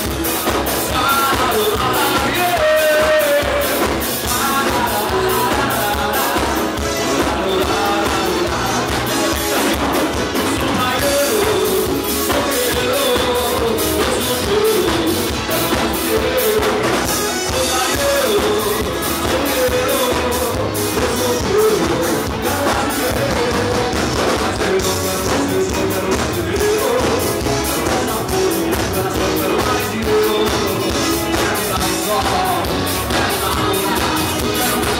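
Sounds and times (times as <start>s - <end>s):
live band music with singer: 0.0s - 34.9s.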